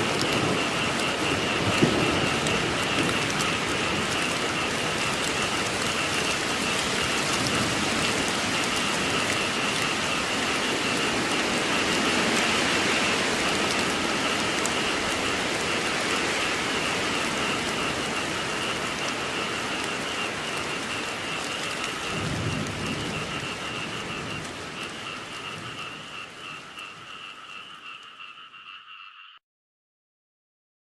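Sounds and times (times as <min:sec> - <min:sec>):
steady rainfall: 0:00.0 - 0:29.0
frogs trilling: 0:00.0 - 0:29.4.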